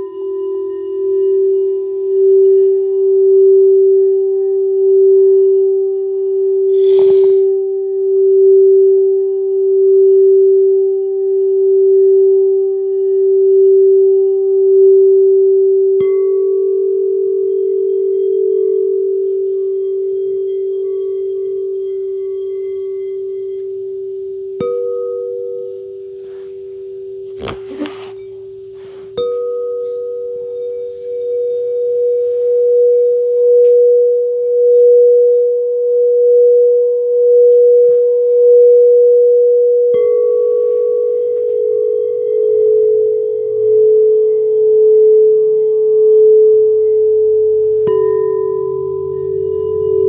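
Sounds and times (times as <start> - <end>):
singing bowl low tone: 0.0 - 27.3, 28.2 - 50.0.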